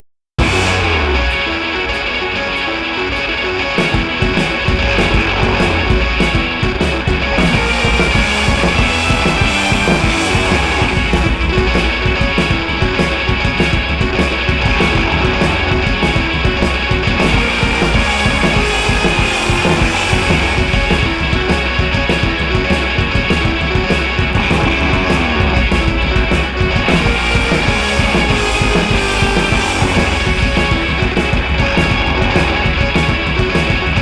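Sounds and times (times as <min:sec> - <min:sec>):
rock music with electric guitars: 0:00.4 - 0:34.0.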